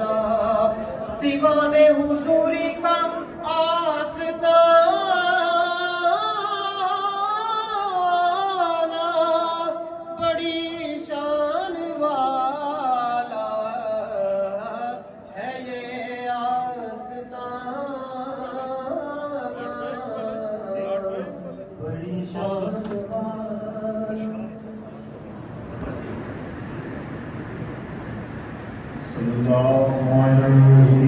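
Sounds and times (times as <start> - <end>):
devotional chant singing: 0.0 - 25.1, 29.0 - 31.0.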